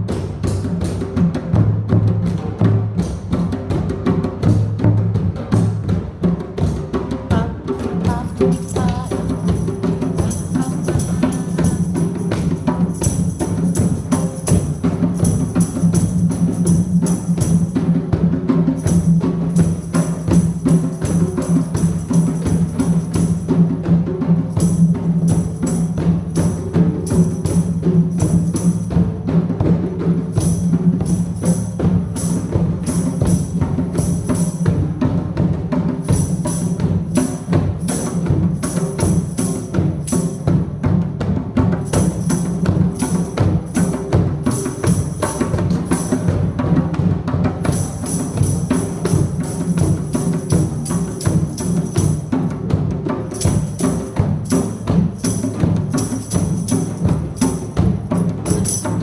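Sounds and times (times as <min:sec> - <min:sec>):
drums playing rhythm: 0:00.0 - 0:59.0
jingling percussion: 0:00.0 - 0:59.0.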